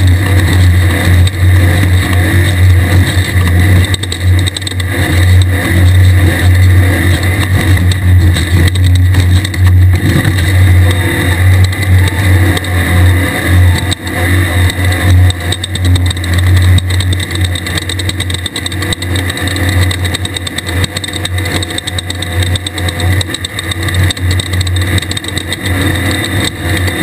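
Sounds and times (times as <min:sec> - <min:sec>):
buggy engine running hard: 0:00.0 - 0:27.0
chassis knocks and rattles: 0:00.0 - 0:27.0.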